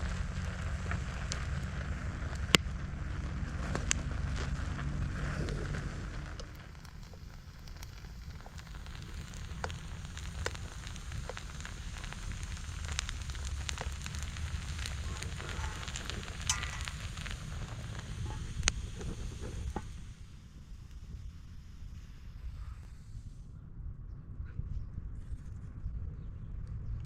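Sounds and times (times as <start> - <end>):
fire crackling and popping: 0.0 - 23.5
low fire rumble: 0.0 - 27.0.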